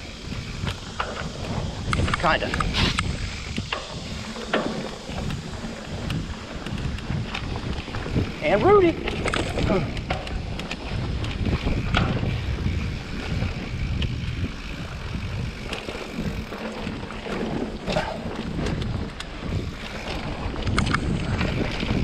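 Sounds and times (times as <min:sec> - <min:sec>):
bike rattling clicks: 0:00.0 - 0:22.0
bike tyre noise: 0:00.0 - 0:22.0
wind rumble on microphone: 0:00.0 - 0:22.0.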